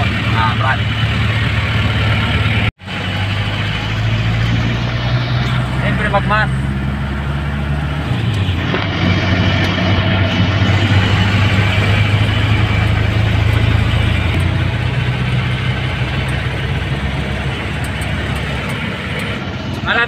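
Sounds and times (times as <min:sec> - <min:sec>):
diesel engine running: 0:00.0 - 0:20.0
road and wind noise: 0:00.0 - 0:20.0.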